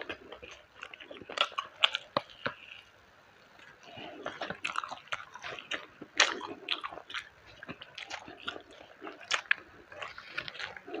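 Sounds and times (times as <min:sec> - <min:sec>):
person chewing with wet mouth sounds: 0:00.0 - 0:11.0.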